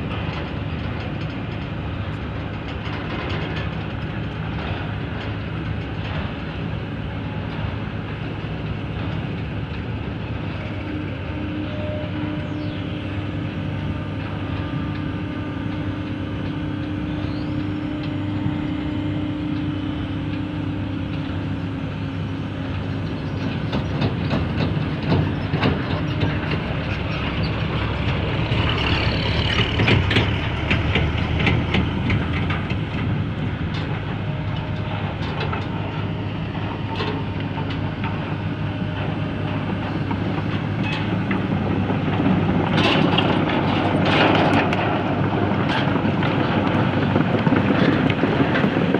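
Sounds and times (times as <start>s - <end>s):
diesel engine running: 0.0s - 48.9s
steel crawler tracks clanking: 0.0s - 48.9s.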